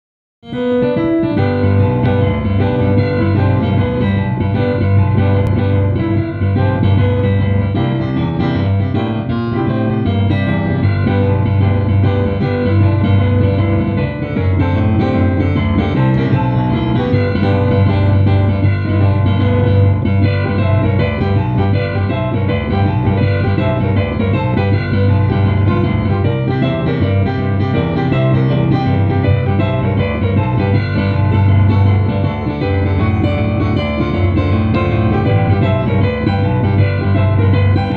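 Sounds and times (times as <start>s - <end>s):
solo piano playing: 0.4s - 37.9s.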